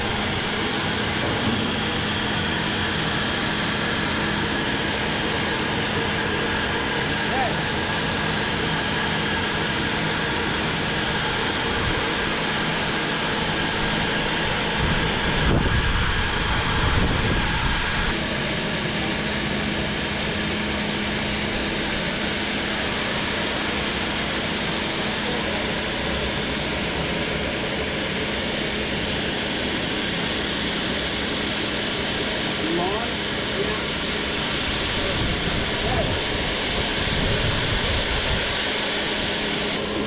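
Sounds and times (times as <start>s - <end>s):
pump mechanical hum: 0.0s - 40.0s.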